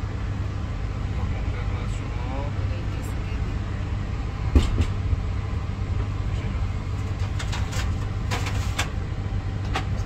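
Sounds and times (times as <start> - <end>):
train rumble inside compartment: 0.0 - 10.0.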